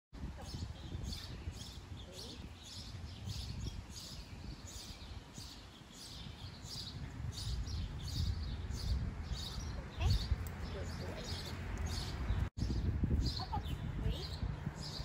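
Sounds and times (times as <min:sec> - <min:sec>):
wind rumble on microphone: 0:00.2 - 0:15.0
songbird chirping: 0:00.3 - 0:15.0.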